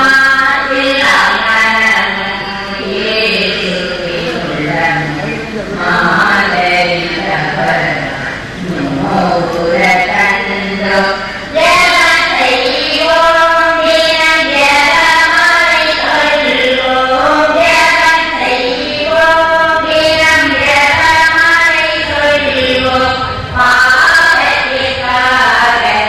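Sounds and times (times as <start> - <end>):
voices singing a hymn: 0.0 - 26.0.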